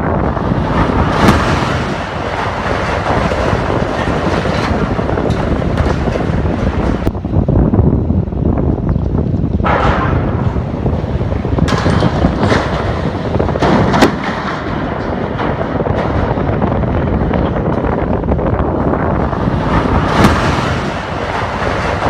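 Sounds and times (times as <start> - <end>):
sharp bangs: 0.0 - 7.4, 9.4 - 22.0
passing train rumble: 0.0 - 22.0
wind buffeting microphone: 0.0 - 22.0.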